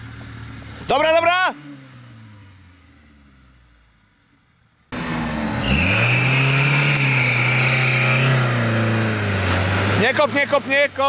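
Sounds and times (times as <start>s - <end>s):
off-road vehicle engine revving: 0.0s - 3.9s, 4.9s - 11.0s.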